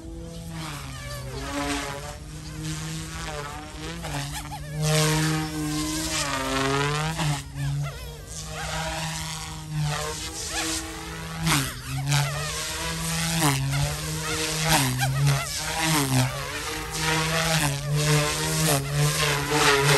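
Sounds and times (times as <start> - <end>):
rc helicopter rotor buzzing: 0.0 - 19.9.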